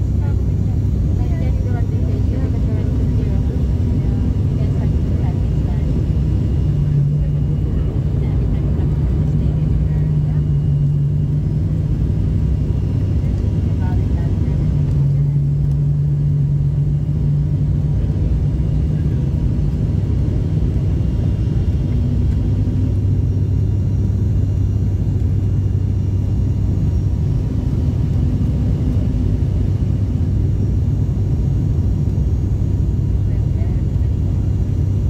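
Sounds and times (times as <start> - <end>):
turboprop cabin drone: 0.0 - 35.0.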